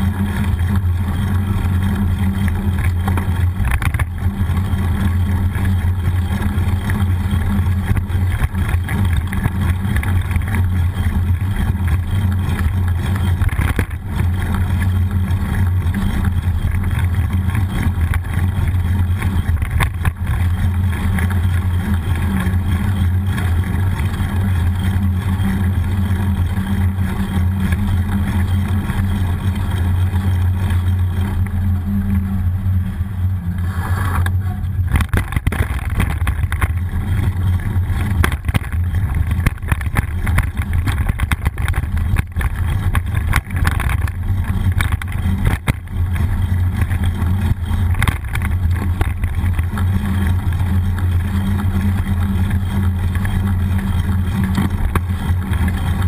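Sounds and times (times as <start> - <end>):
bike knocks and rattles: 0.0 - 31.9, 33.5 - 56.0
tyre and road noise: 0.0 - 56.0.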